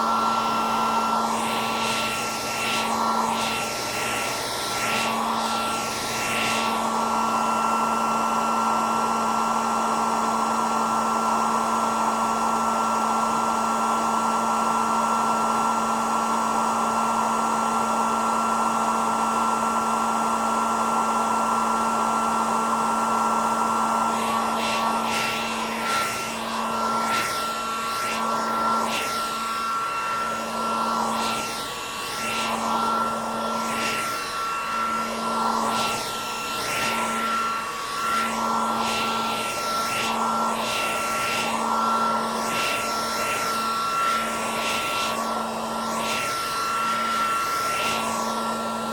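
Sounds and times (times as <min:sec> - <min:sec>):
hair dryer running: 0:00.0 - 0:48.9.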